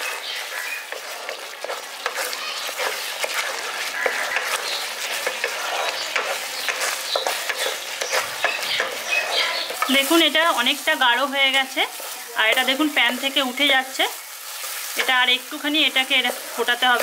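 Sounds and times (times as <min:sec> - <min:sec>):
mixture sizzling: 0:00.0 - 0:17.0
spatula scraping a pan: 0:00.0 - 0:17.0.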